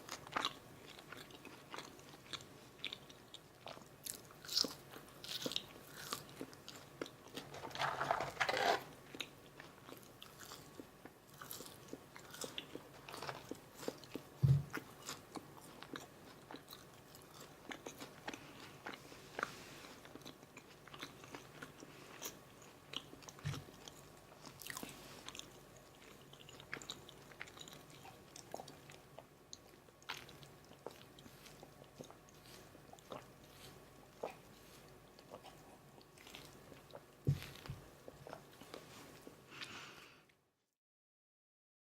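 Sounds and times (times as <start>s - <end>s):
crunchy chewing: 0.0s - 39.7s.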